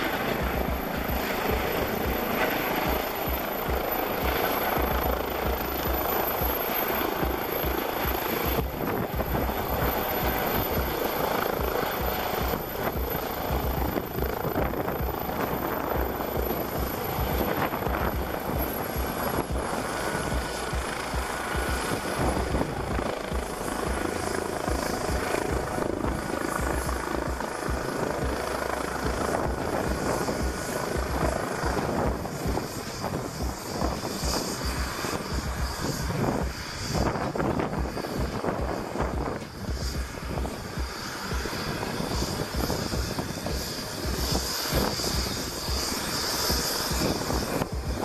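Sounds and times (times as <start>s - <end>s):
helicopter rotor beating: 0.0s - 48.0s
helicopter turbine noise: 0.0s - 48.0s.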